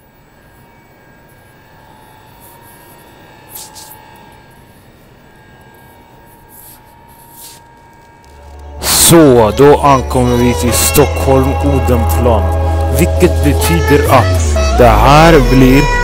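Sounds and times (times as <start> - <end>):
train humming: 0.0 - 16.0.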